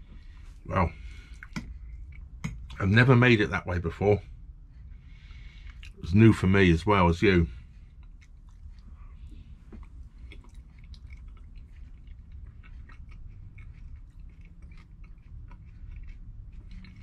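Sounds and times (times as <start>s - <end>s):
person chewing food: 0.0s - 2.8s, 4.4s - 6.1s, 7.5s - 17.0s
low steady rumble: 0.0s - 17.0s.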